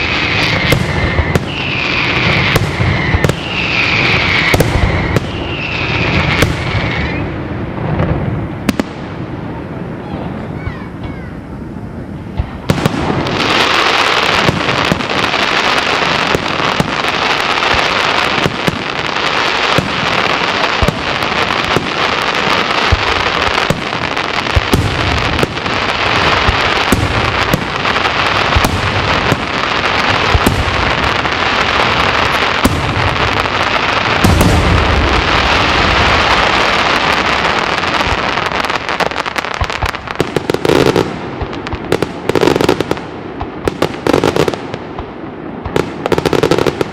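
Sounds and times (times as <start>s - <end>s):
deep firework booms: 0.0s - 10.6s, 12.2s - 46.9s
loud firework bangs: 0.0s - 11.3s, 12.3s - 46.9s
fireworks crackling and popping: 0.0s - 46.9s.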